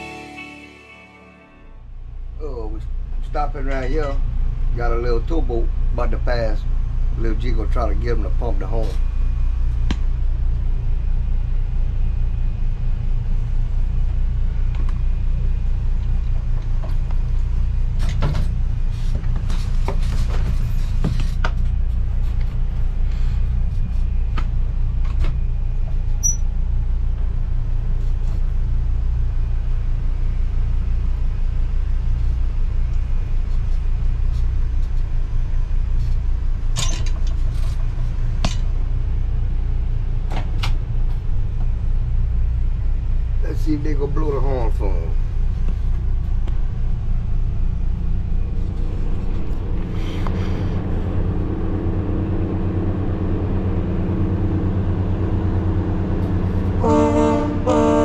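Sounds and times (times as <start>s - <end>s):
boat engine rumbling: 1.6s - 58.0s.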